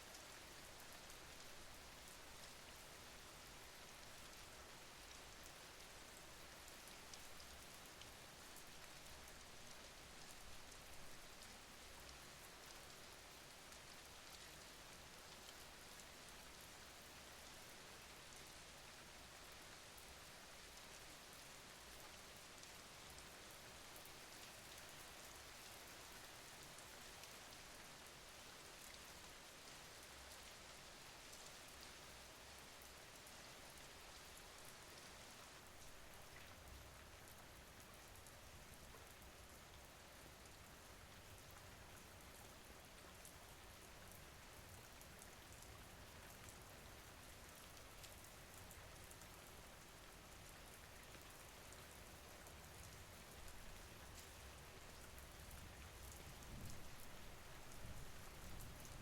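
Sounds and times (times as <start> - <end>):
faint rain hiss: 0.0 - 59.0.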